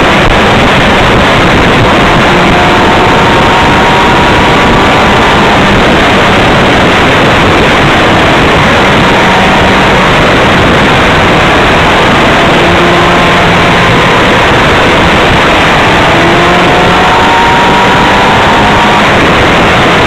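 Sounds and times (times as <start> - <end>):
faint motorcycle engine: 0.0 - 20.0
wind rush on microphone: 0.0 - 20.0.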